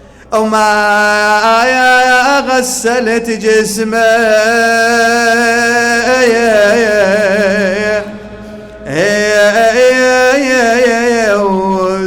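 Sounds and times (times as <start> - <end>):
man chanting: 0.2 - 12.0.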